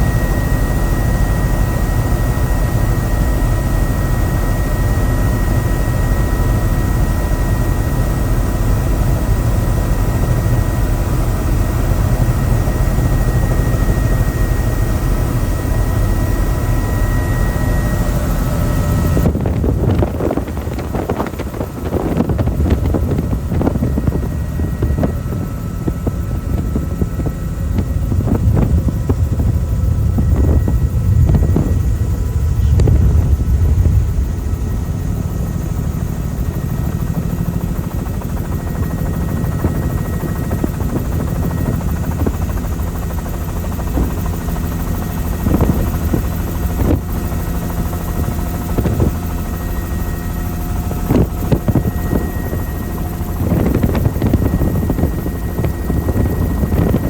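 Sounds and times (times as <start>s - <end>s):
helicopter rotor and engine drone: 0.0s - 57.0s
wind rumbling on microphone: 0.0s - 57.0s.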